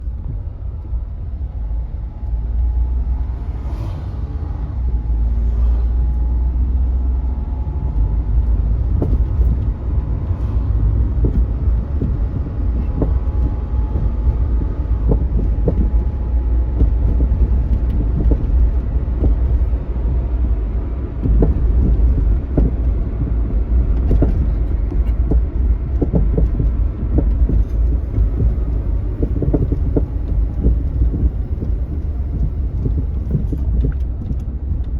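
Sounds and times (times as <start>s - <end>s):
road rumble: 0.0s - 34.9s.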